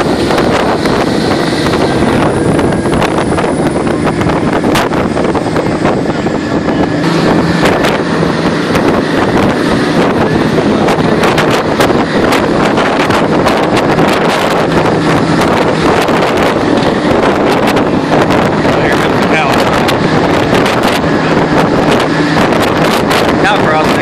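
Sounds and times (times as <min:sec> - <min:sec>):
truck driving at speed: 0:00.0 - 0:24.0
wind buffeting microphone: 0:00.0 - 0:24.0.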